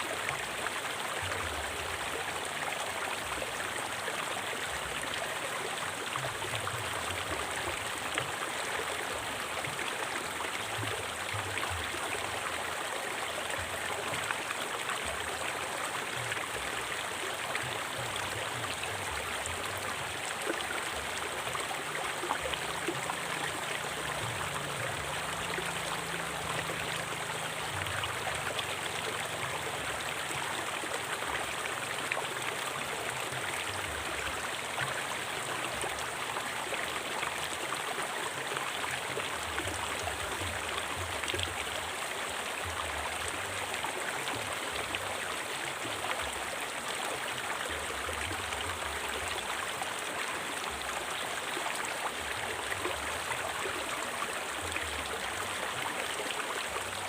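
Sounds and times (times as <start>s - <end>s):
river water splashing over rocks: 0.0s - 57.0s.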